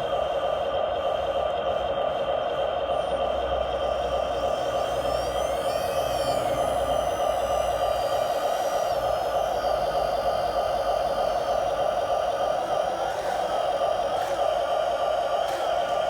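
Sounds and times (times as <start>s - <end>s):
hydraulic pump running: 0.0s - 16.0s
faint high whine: 3.0s - 16.0s.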